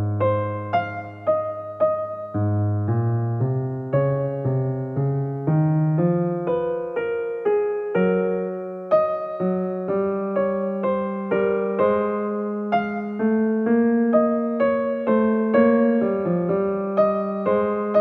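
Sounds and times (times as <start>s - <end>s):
slow electric piano music: 0.0s - 18.0s.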